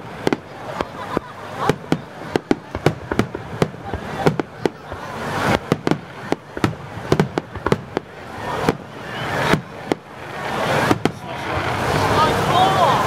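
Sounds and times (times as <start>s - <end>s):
firework shells bursting: 0.0s - 12.0s
firework hiss: 0.0s - 13.0s.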